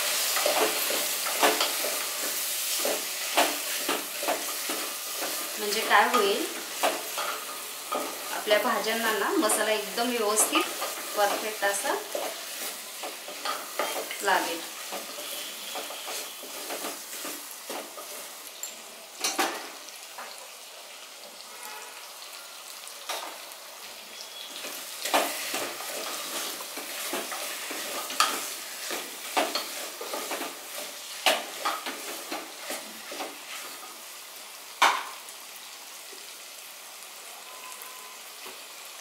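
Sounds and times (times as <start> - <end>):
vegetables sizzling in pot: 0.0 - 39.0.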